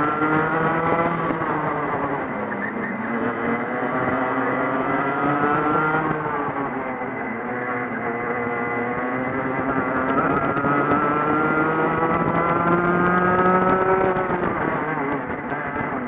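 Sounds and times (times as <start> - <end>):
kart engine accelerating: 0.0 - 16.0.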